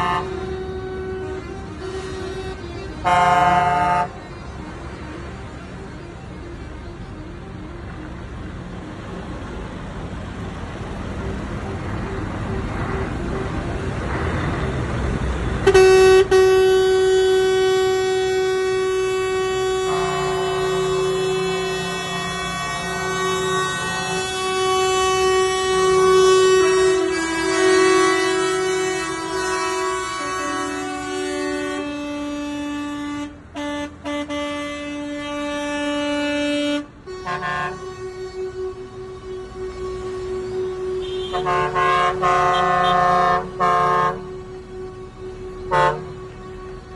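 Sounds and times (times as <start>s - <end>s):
truck air horn blast: 0.0s - 8.0s, 15.6s - 46.9s
lower truck horn: 0.0s - 46.9s
rumble of truck engines: 0.0s - 46.9s.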